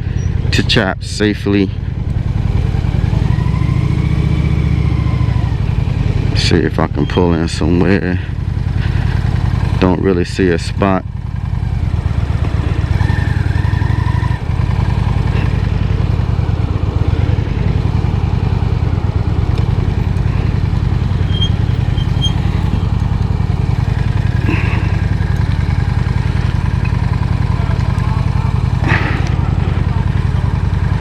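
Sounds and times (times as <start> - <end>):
motorcycle engine idling low: 0.0 - 31.0.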